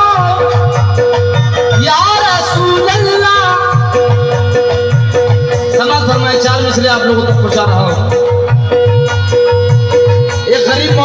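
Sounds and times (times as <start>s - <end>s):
harmonium drone: 0.0s - 11.0s.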